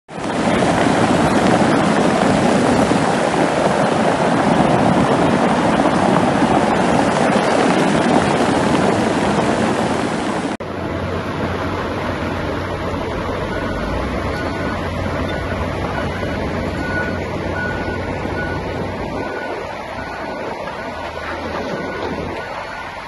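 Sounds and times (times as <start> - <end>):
rushing churning floodwater: 0.1 - 23.0.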